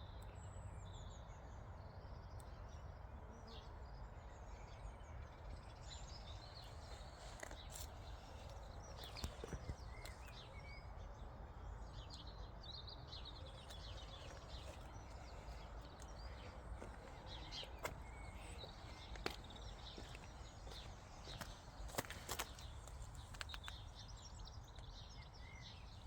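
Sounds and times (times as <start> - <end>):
outdoor background noise: 0.0 - 26.0
small birds chirping: 0.0 - 26.0.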